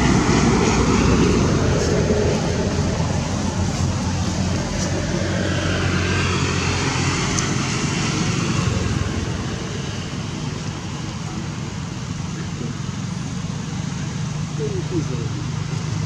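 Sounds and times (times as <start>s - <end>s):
distant engine rumble: 0.0s - 16.0s.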